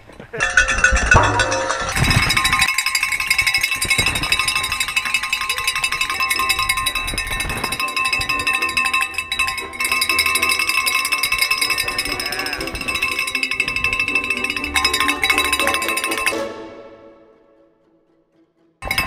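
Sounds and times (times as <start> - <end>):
cowbells clanging: 0.1 - 16.6.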